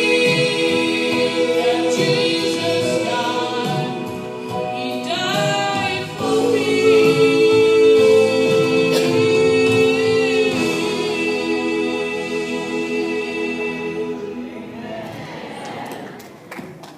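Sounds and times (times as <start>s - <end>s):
vocal group singing gospel harmony: 0.0s - 16.2s.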